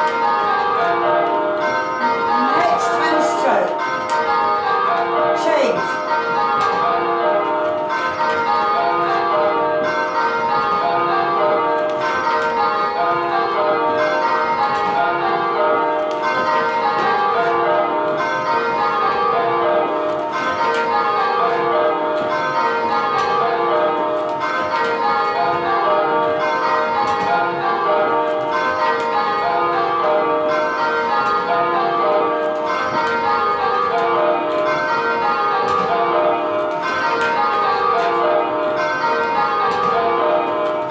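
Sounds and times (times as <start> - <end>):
church bells change ringing: 0.0 - 40.9.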